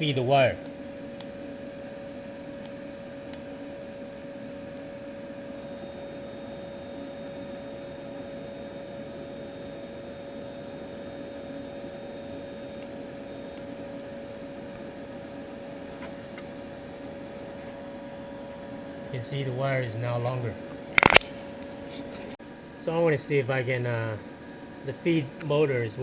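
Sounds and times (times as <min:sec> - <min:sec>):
faint higher whine: 0:00.0 - 0:26.0
welder electrical hum and whine: 0:00.0 - 0:26.0.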